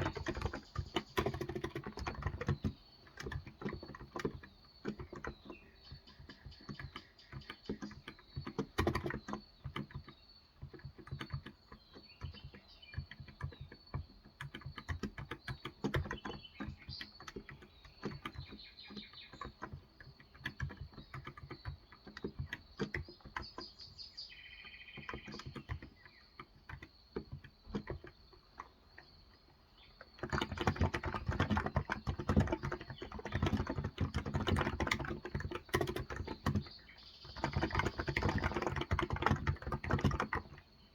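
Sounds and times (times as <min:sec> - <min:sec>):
birds chirping: 0:00.0 - 0:40.9
typing on a keyboard: 0:00.0 - 0:40.9.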